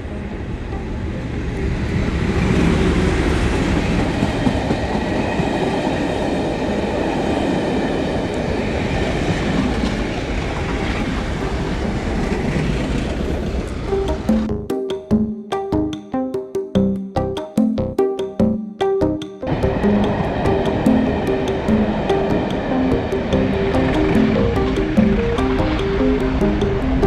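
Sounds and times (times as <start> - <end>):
train rumbling on rails: 0.0 - 14.4, 19.5 - 27.0.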